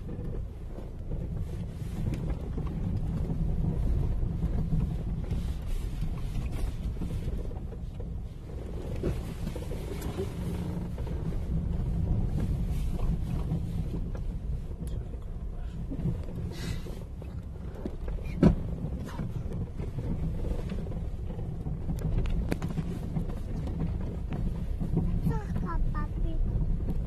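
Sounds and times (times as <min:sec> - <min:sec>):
low engine and tyre rumble: 0:00.0 - 0:27.0.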